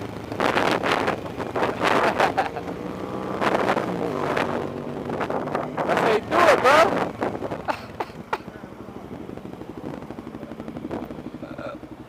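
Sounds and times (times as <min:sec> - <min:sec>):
dirt bike engine running: 0:00.0 - 0:12.0
wind buffeting microphone: 0:00.0 - 0:12.0.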